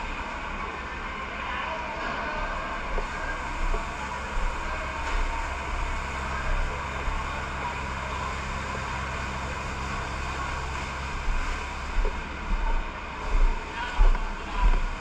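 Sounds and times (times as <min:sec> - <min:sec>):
steady hum: 0:00.0 - 0:15.0
vehicle engine rumbling: 0:02.0 - 0:15.0.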